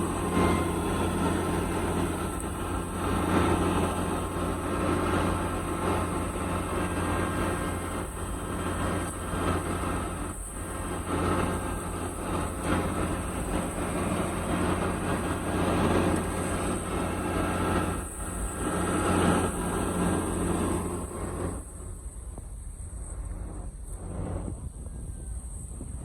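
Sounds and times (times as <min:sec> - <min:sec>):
heavy machinery engine humming: 0:00.0 - 0:26.0.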